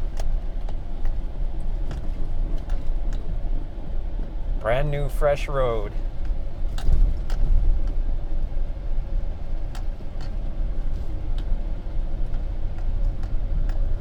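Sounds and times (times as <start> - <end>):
engine and tyres rumbling on gravel: 0.0 - 14.0.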